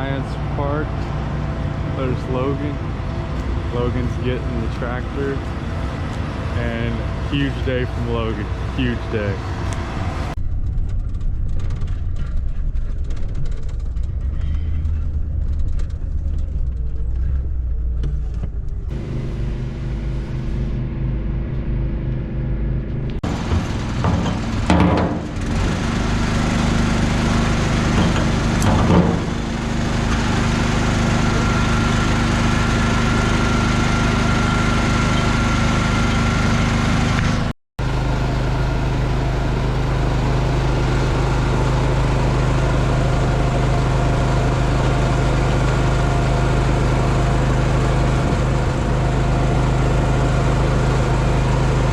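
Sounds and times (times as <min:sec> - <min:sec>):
farm machinery engines running: 0:00.0 - 0:51.9.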